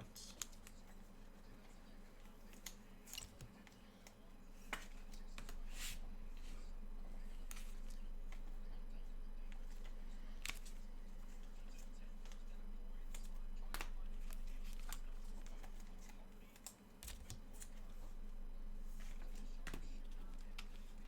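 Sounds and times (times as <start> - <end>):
low electrical hum: 0.0 - 21.0
trading cards clicking and rustling: 0.0 - 21.0.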